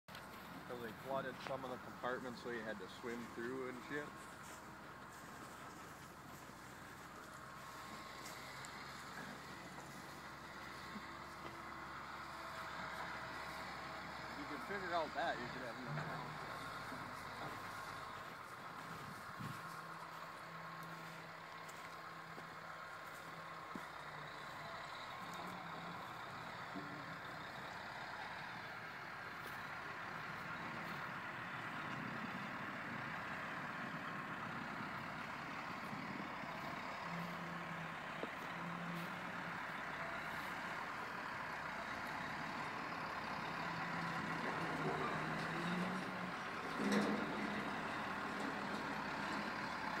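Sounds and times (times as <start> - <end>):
heavy diesel truck engine running: 0.1 - 50.0.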